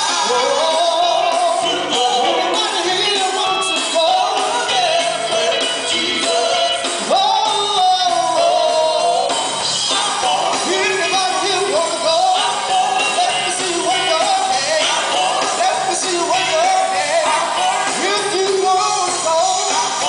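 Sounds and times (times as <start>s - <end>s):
gospel group singing with band: 0.0s - 20.0s.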